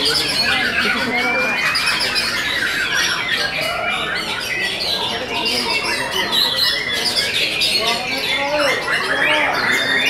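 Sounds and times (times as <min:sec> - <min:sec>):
chorus of songbirds singing: 0:00.0 - 0:10.0.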